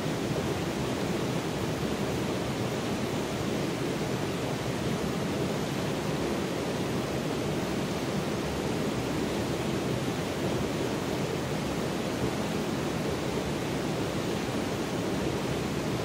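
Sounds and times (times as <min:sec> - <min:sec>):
creek water rushing over stones: 0:00.0 - 0:16.0.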